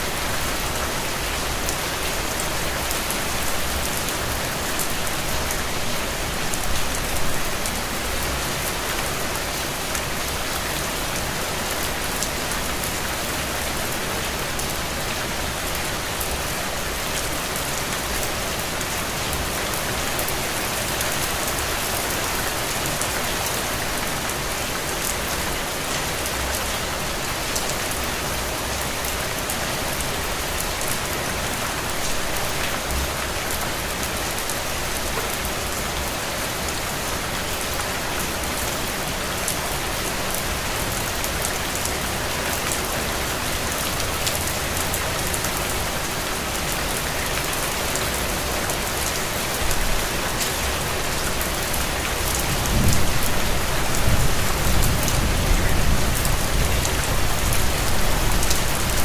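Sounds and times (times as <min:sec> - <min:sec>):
rain on a window: 0:00.0 - 0:59.0.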